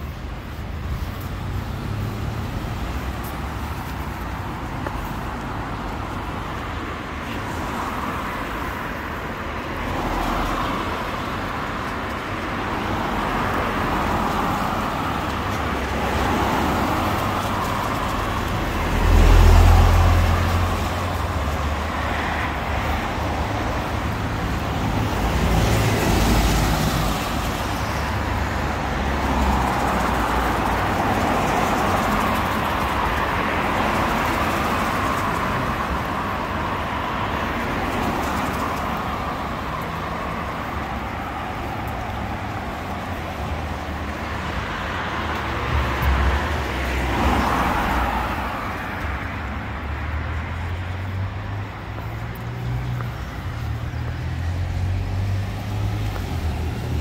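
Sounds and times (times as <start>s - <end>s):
cars passing on wet road: 0.0s - 57.0s.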